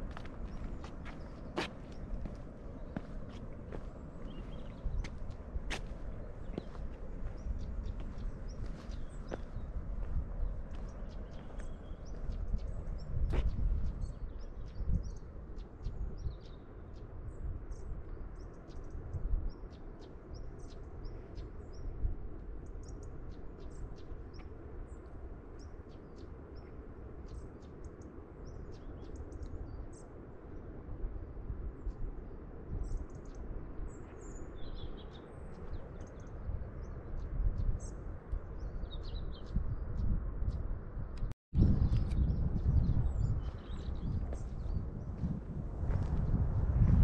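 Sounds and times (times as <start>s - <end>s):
small birds chirping: 0.0s - 30.6s, 31.8s - 47.0s
wind buffeting microphone: 0.0s - 47.0s.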